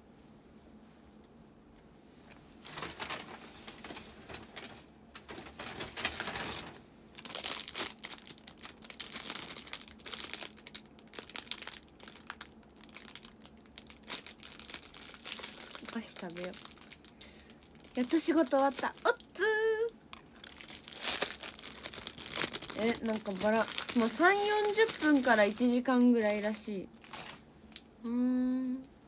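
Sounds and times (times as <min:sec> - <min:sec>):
rustling and crinkling handling: 0:02.2 - 0:19.4, 0:20.1 - 0:27.9.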